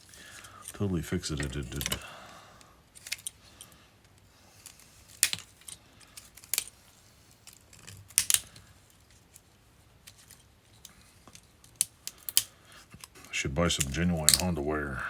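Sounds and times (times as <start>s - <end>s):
wiring harness clicking and rattling: 0.0s - 2.1s, 2.9s - 14.6s.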